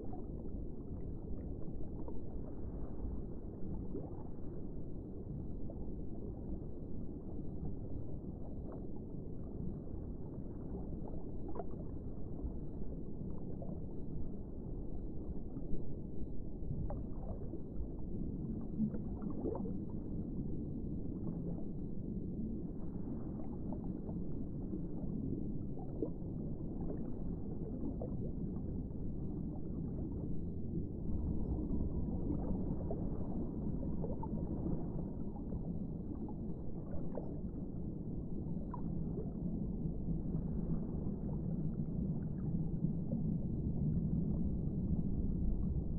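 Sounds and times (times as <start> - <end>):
low dull water noise: 0.0 - 45.9.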